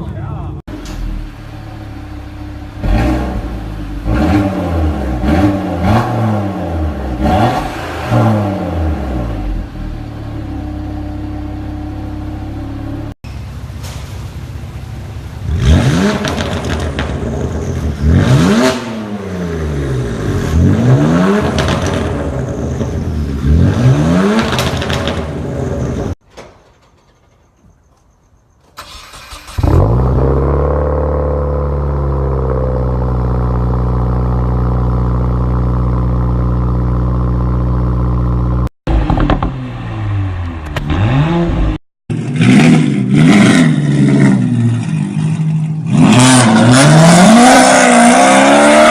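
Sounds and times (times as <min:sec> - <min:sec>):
performance car exhaust revving: 0:00.7 - 0:13.6, 0:14.5 - 0:26.2, 0:29.4 - 0:48.9.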